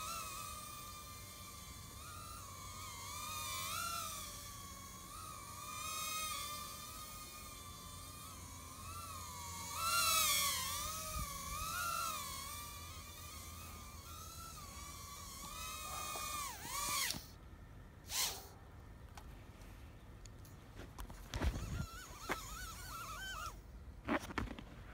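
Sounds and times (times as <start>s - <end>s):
quadcopter motors whining: 0.0s - 17.4s, 18.0s - 18.5s, 21.0s - 23.8s.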